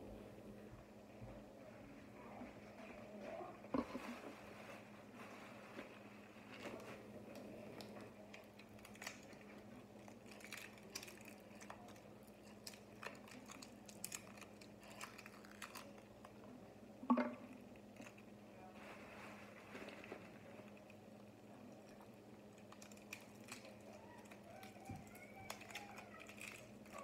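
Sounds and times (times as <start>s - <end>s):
steady low hum: 0.0s - 27.0s
clicks and rustles of handling: 2.4s - 27.0s.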